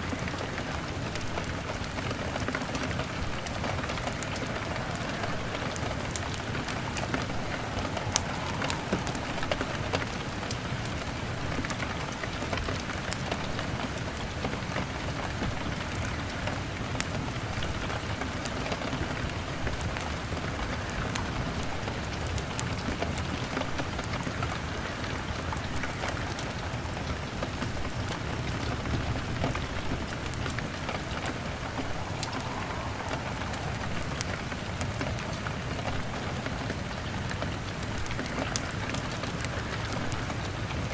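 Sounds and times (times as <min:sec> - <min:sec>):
wood fire crackling: 0:00.0 - 0:14.5, 0:19.3 - 0:40.9
rain on a window pane: 0:00.0 - 0:40.9.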